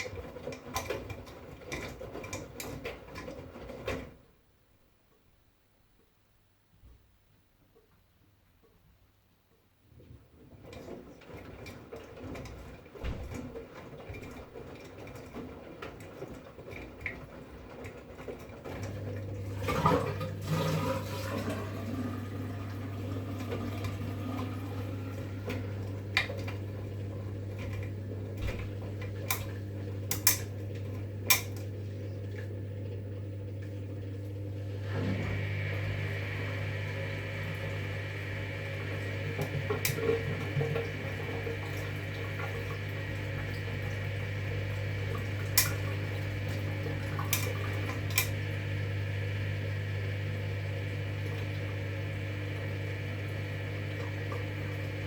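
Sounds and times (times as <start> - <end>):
water splashing in washing machine: 0.0 - 4.2, 10.0 - 55.0.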